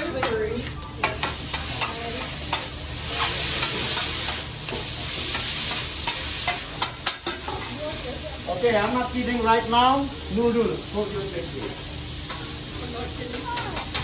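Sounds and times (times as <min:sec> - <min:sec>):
noodles sizzling on griddle: 0:00.0 - 0:14.0.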